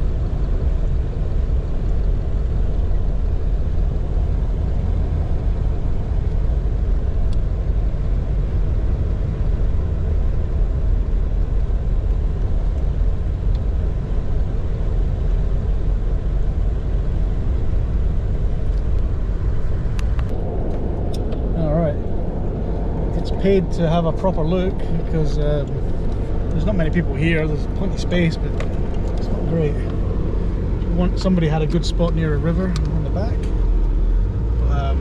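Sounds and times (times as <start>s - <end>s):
vehicle road rumble: 0.0s - 35.0s.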